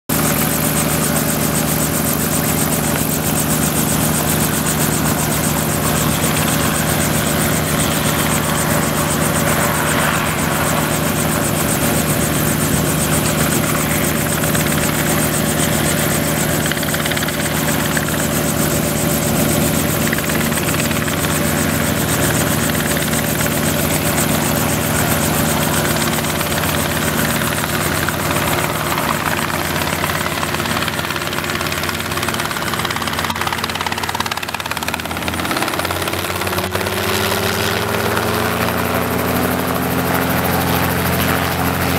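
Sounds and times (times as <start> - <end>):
helicopter hovering: 0.1 - 41.9.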